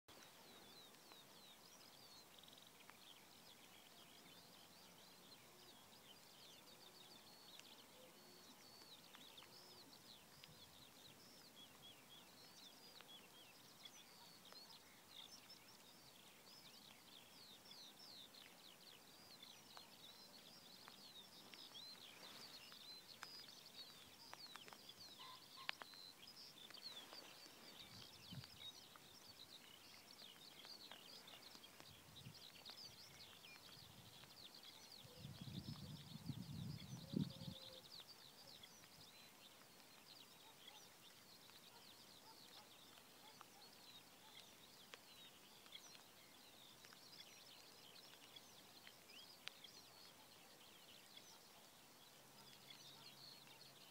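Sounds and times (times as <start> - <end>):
songbirds chirping and trilling: 0.1 - 53.9.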